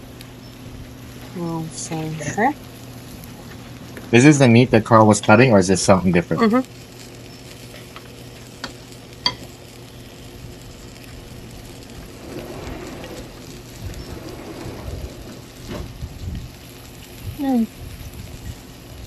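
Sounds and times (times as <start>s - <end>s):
meat sizzling on grill: 0.0s - 19.0s.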